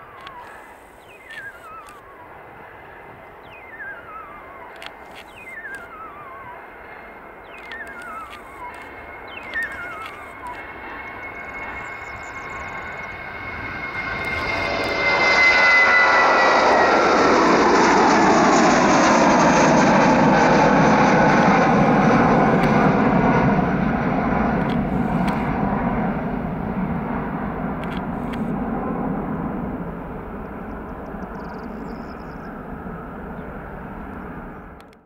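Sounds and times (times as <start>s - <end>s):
jet engines at takeoff thrust: 0.0s - 35.0s.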